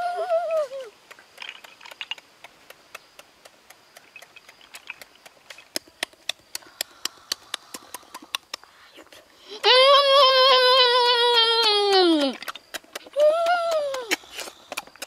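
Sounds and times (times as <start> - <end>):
clicks from eating snails: 0.9 - 9.6, 10.5 - 15.0.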